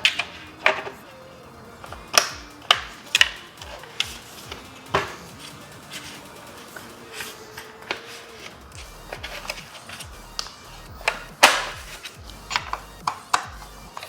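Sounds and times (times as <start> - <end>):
plastic parts clicking and knocking: 0.0 - 1.1, 1.8 - 6.2, 7.1 - 14.0
faint background music: 0.0 - 14.0.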